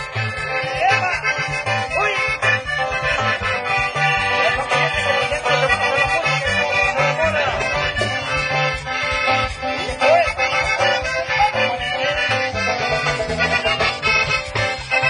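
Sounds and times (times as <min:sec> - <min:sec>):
accordion-led dance-band music: 0:00.0 - 0:15.0.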